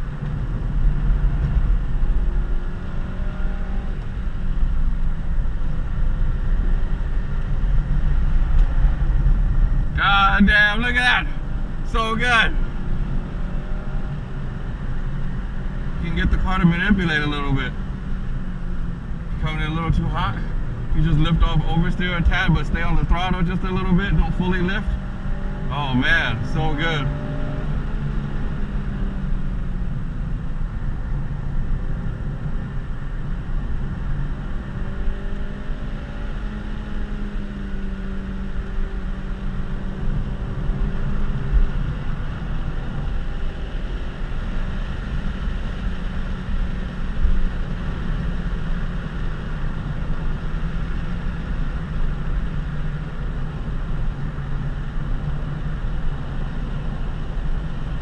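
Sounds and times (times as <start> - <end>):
car engine revving: 0.0 - 58.0
road rumble: 0.0 - 58.0.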